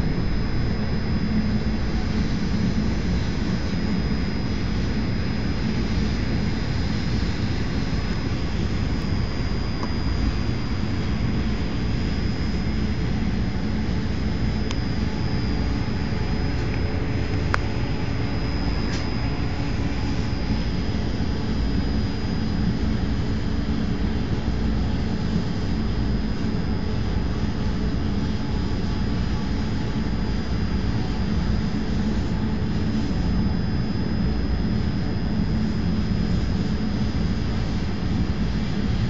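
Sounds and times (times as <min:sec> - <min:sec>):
thin high whine: 0:00.0 - 0:39.0.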